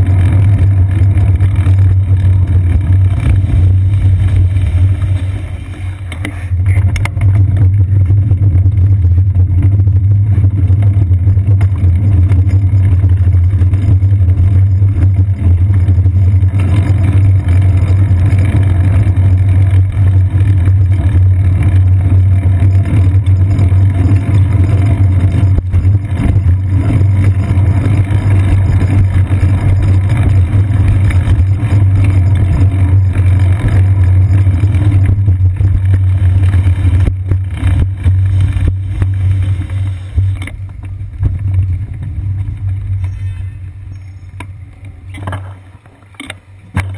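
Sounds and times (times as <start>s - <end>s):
wind and road rumble: 0.0s - 46.9s.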